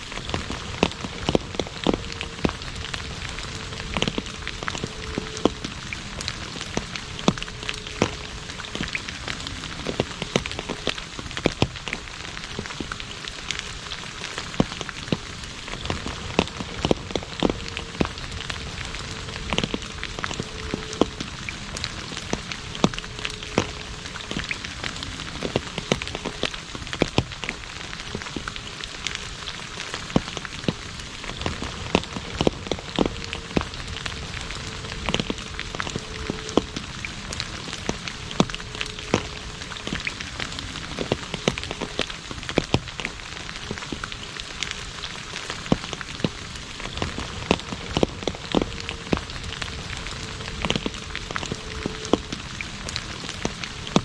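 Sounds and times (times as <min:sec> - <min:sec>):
rain on asphalt: 0:00.0 - 0:54.0
sharp raindrop taps: 0:00.0 - 0:54.0.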